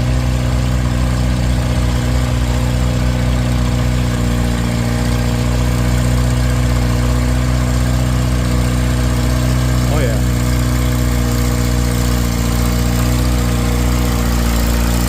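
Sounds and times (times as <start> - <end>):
tractor engine running loud: 0.0 - 15.0.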